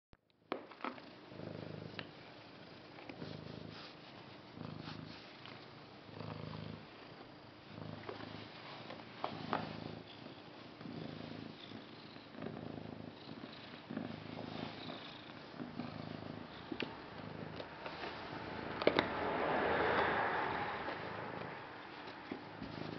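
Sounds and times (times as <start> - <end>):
cat purring: 1.0 - 22.9.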